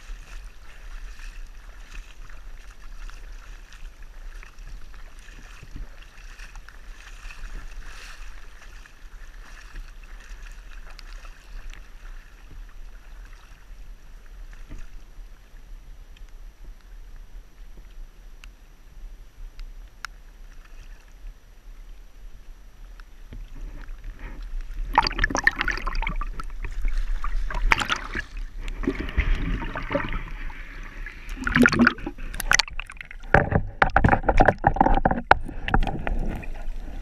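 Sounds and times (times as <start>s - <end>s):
creek water gurgling: 0.0s - 15.7s, 20.2s - 37.0s.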